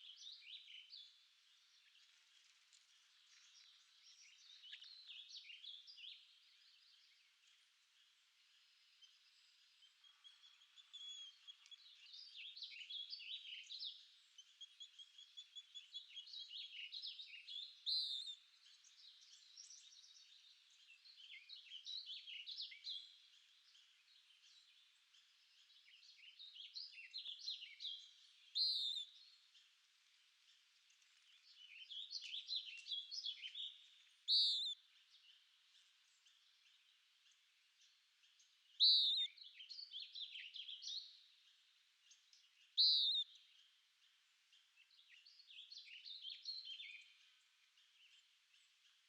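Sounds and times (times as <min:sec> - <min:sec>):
songbird chirping and warbling: 0:00.0 - 0:49.0.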